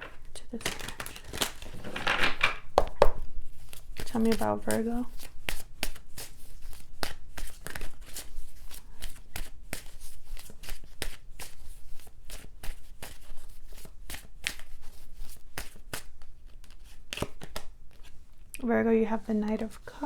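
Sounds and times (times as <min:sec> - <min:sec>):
cards being shuffled: 0:00.0 - 0:18.4.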